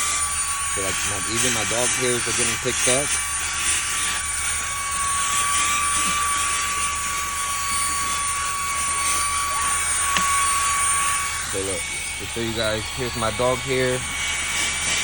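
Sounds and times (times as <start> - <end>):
handheld vacuum running: 0.0 - 15.0.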